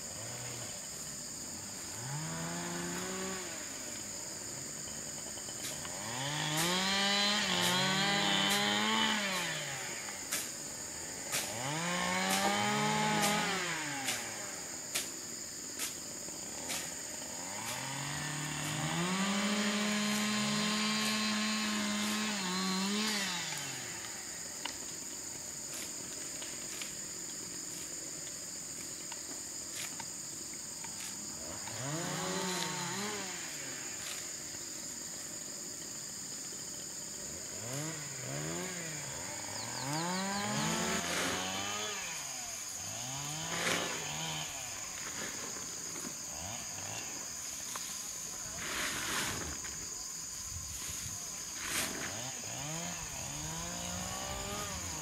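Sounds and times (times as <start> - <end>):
small engine revving: 0.0 - 1.0, 1.8 - 4.2, 5.4 - 10.5, 11.1 - 15.1, 15.8 - 24.9, 30.9 - 34.9, 35.7 - 55.0
high insect drone: 0.0 - 55.0.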